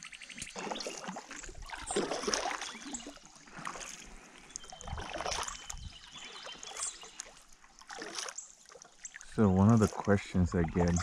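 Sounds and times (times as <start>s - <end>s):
kayak paddle splashing water: 0.0s - 11.0s.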